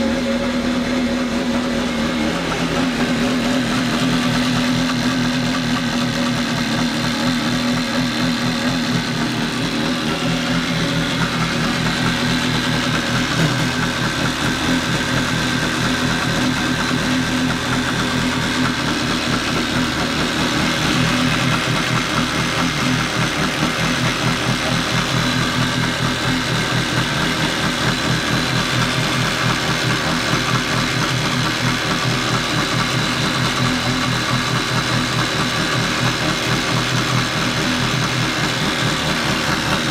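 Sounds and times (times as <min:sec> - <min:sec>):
jet ski engine idling: 0:00.0 - 0:39.9.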